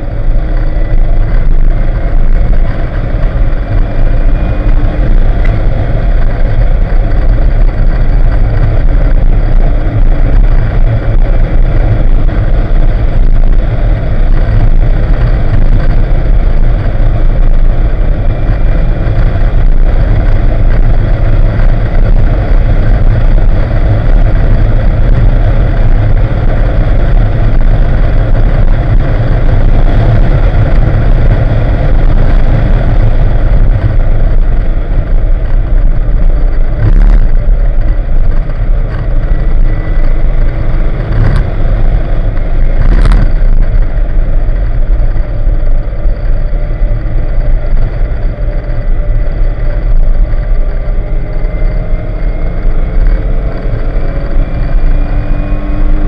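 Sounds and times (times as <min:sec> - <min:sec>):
car engine under load: 0:00.0 - 0:56.0
road and wind noise: 0:00.0 - 0:56.0.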